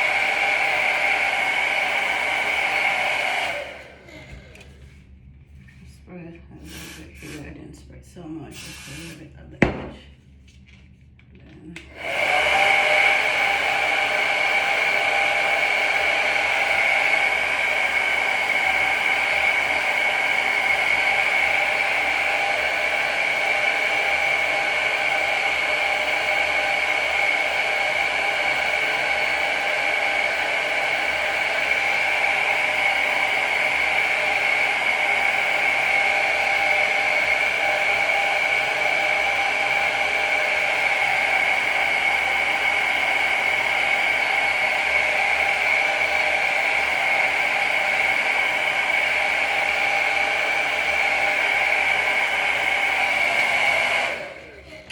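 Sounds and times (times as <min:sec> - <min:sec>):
hair dryer running: 0:00.0 - 0:05.0, 0:06.2 - 0:10.0, 0:11.8 - 0:54.9.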